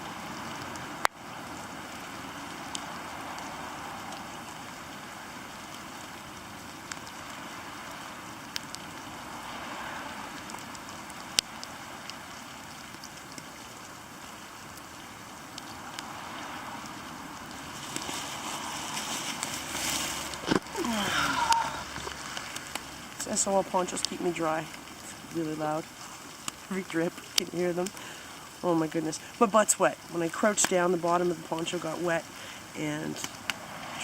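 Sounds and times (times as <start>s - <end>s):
rain pattering on a poncho: 0.0s - 34.0s.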